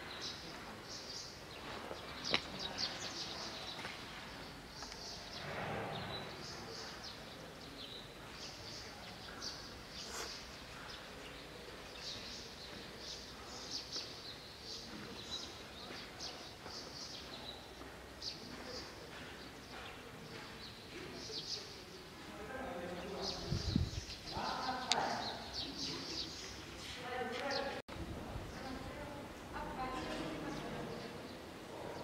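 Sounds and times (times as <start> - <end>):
small birds chirping: 0.0 - 27.8.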